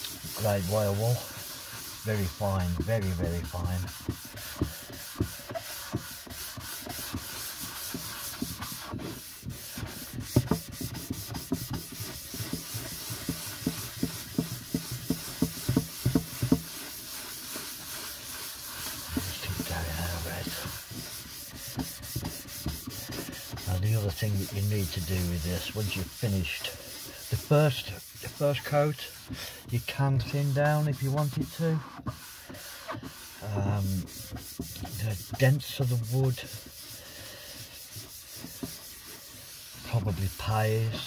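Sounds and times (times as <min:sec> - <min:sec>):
wire wool rubbing on wood: 0:00.0 - 0:41.0.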